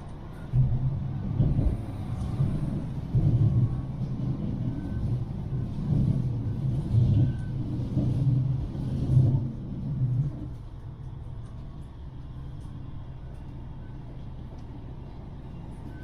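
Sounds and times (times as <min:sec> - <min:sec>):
tram rumbling on track: 0:00.0 - 0:16.0.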